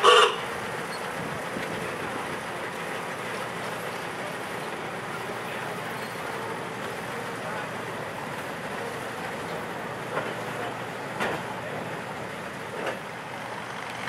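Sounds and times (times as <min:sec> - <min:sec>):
rail car rolling on track: 0:00.0 - 0:14.0.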